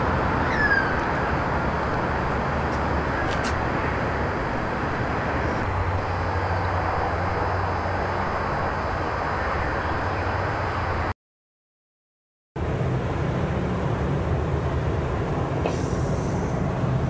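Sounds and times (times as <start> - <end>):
outdoor background rumble: 0.0 - 11.1, 12.6 - 17.0.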